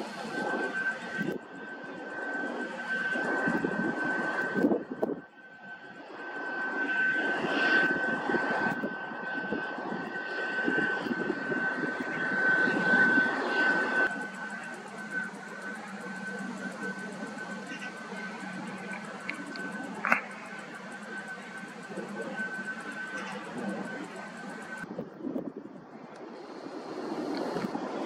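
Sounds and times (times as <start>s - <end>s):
jet engine whine and rumble: 0.0s - 28.0s.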